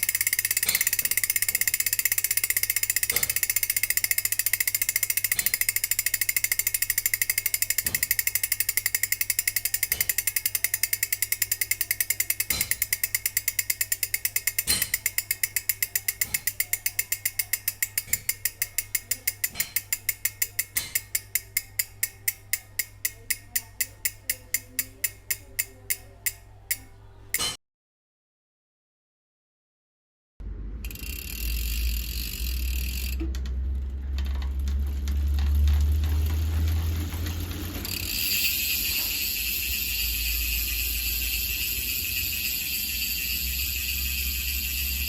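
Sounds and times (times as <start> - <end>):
bicycle hub ratchet clicking: 0.0 - 27.4, 30.8 - 45.0.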